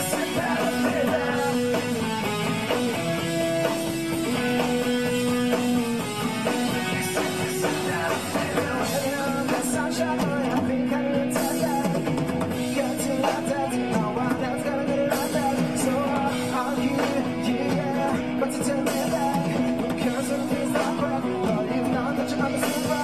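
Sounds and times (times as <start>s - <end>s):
man singing into a microphone: 0.0s - 2.2s, 6.6s - 23.0s
drums: 0.0s - 23.0s
electric bass: 0.0s - 23.0s.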